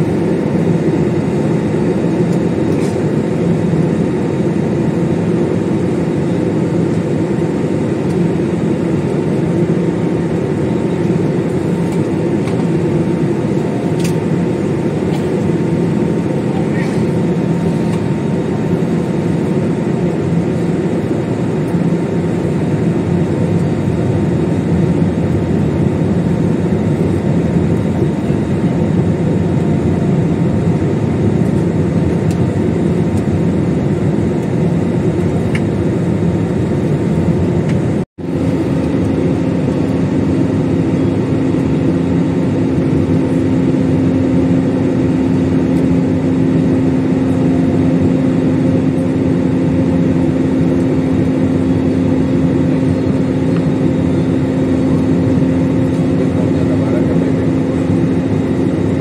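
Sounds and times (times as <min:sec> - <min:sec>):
airliner cabin engine noise: 0:00.0 - 0:59.0
steady low hum: 0:00.0 - 0:59.0.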